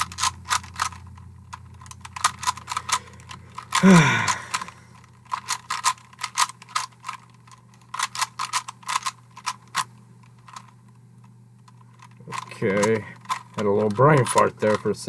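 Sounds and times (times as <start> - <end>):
rubik's cube clicking: 0.0 - 10.7, 11.7 - 14.9.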